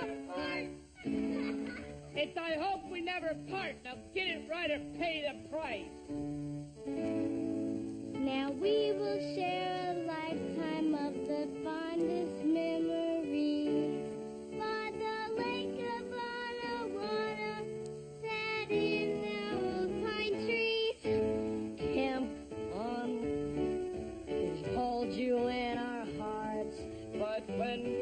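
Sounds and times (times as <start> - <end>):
instrumental backing music: 0.0 - 28.0.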